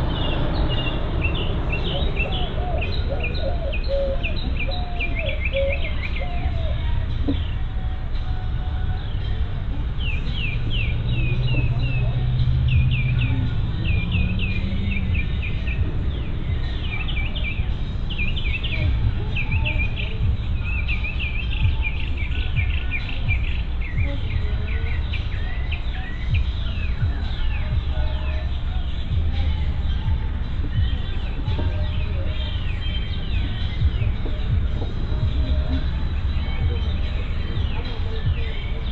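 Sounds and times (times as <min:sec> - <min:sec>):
birds chirping: 0:00.0 - 0:38.9
steady low rumble: 0:00.0 - 0:38.9.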